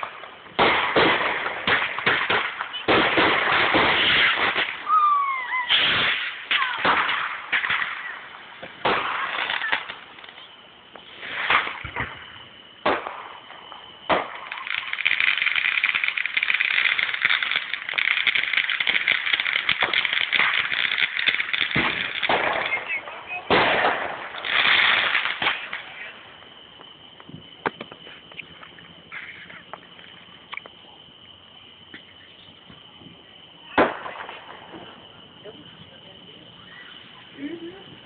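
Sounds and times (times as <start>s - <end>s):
firework whistles: 0.0s - 38.0s
fireworks banging: 0.0s - 38.0s
fireworks crackling: 0.0s - 38.0s.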